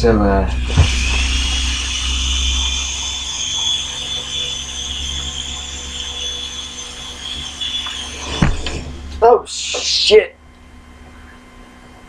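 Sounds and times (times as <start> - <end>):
rc helicopter motor whine: 0.4 - 11.5.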